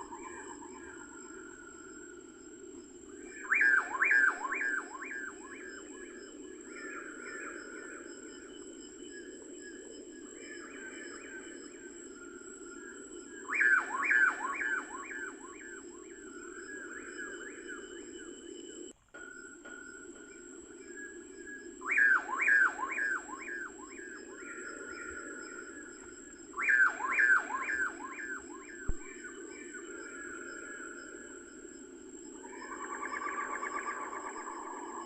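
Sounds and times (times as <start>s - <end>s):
steady low hiss: 0.0s - 34.9s.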